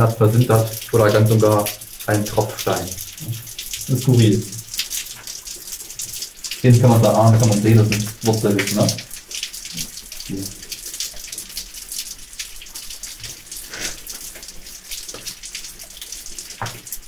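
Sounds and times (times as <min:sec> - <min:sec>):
water dripping and splashing: 0:00.0 - 0:17.0.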